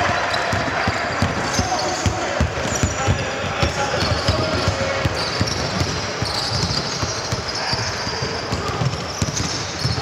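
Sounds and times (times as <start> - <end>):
basketball bouncing on court: 0.0 - 10.0.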